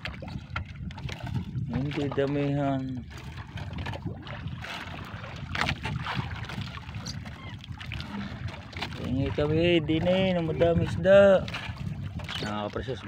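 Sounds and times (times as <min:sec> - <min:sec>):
boat engine rumbling: 0:00.0 - 0:13.0
water noise: 0:00.0 - 0:13.0
wind: 0:00.0 - 0:13.0.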